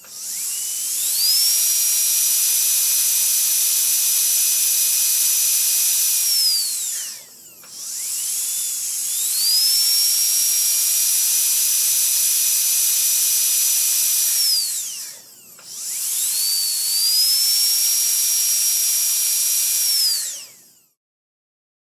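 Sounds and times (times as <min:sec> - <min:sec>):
dentist's drill whining: 0:00.0 - 0:21.0.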